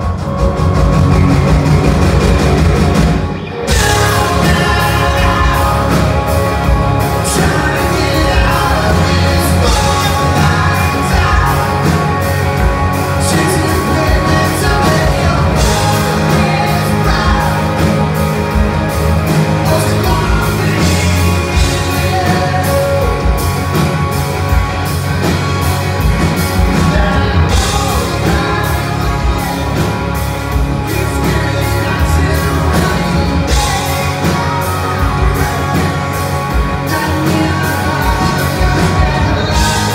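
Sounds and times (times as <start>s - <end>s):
bass guitar: 0.0s - 39.9s
distorted electric guitars: 0.0s - 39.9s
drum kit beat: 0.0s - 39.9s
man singing: 3.6s - 23.9s, 26.2s - 39.9s.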